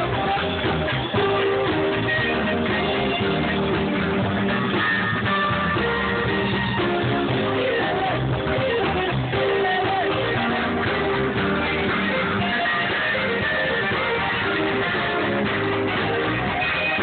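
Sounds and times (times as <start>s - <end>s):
guitar music: 0.0s - 17.0s.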